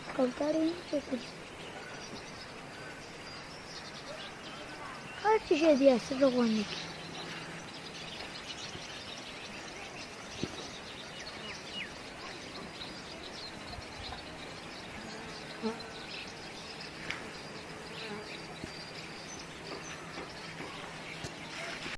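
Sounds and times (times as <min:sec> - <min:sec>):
faint bird chirps: 0:00.0 - 0:21.9
insects buzzing: 0:00.0 - 0:21.9.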